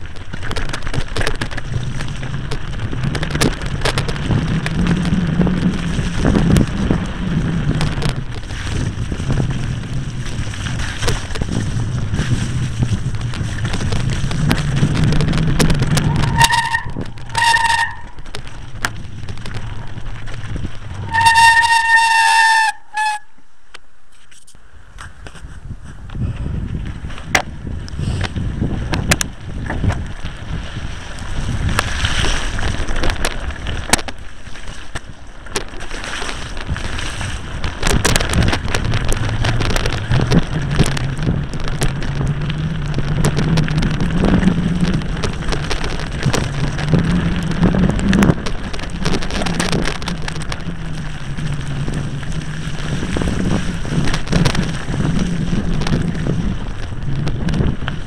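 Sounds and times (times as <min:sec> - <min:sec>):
wind buffeting microphone: 0:00.0 - 0:23.2, 0:25.0 - 0:58.0
bike rattles and knocks: 0:00.0 - 0:23.3, 0:24.2 - 0:58.0.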